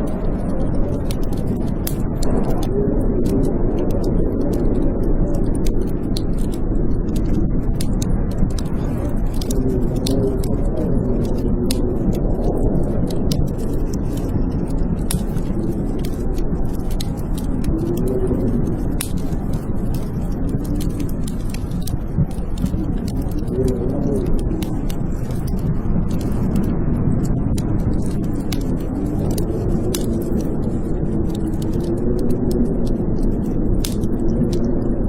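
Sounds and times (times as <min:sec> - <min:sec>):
wind howling: 0:00.0 - 0:35.0
wood fire crackling and popping: 0:00.0 - 0:35.0.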